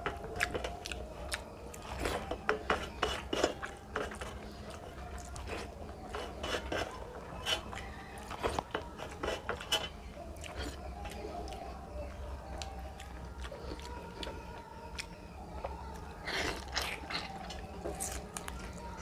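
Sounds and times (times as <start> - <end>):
chewing: 0.0 - 19.0
fingers mixing wet rice: 0.0 - 19.0.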